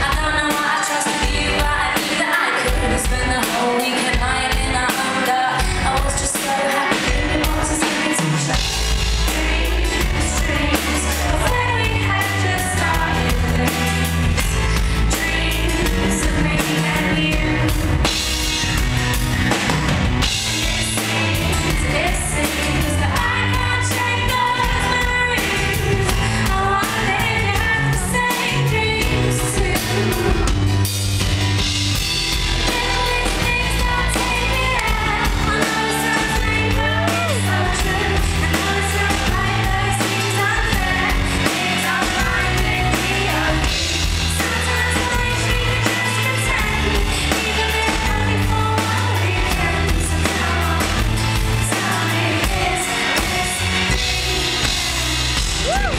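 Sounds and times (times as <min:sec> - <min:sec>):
woman singing: 0:00.0 - 0:18.6, 0:20.2 - 0:30.6, 0:32.6 - 0:55.9
drums: 0:00.0 - 0:55.9
bass line: 0:08.5 - 0:55.9.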